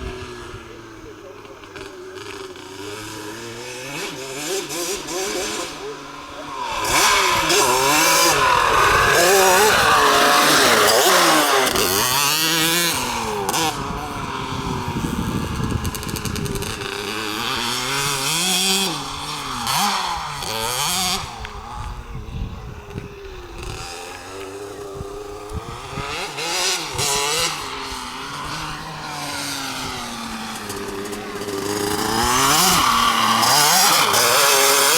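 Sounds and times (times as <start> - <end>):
two-stroke motorcycle engine revving: 0.0 - 34.9.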